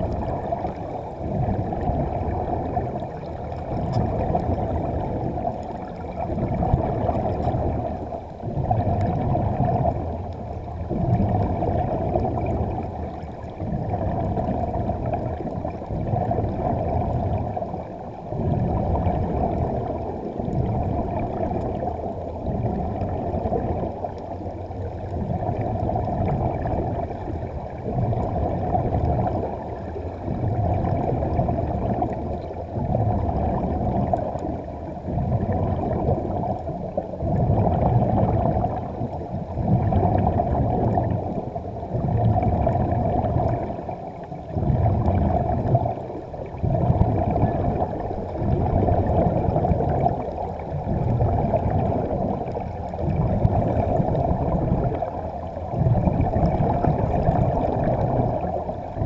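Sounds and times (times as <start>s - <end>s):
underwater air bubbling: 0.0s - 59.0s.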